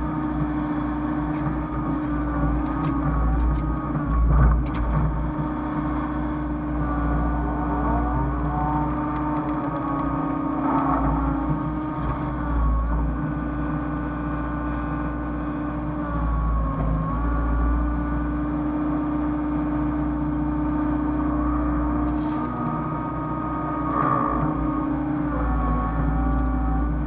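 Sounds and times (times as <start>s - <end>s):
excavator diesel engine droning: 0.0s - 27.0s
hydraulic whine: 0.0s - 27.0s.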